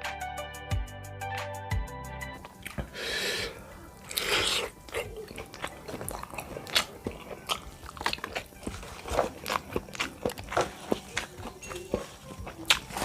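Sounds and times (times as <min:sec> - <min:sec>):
meatballs being bitten and chewed: 0:02.4 - 0:13.0.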